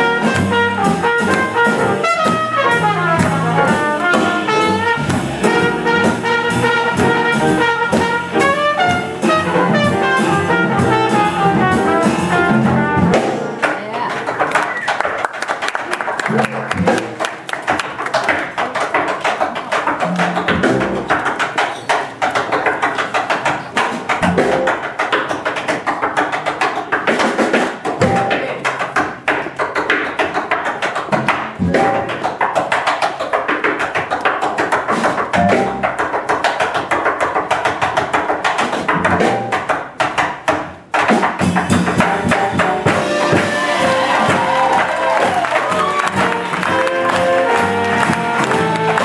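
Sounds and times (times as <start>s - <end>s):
jazz drums and percussion: 0.0s - 49.0s.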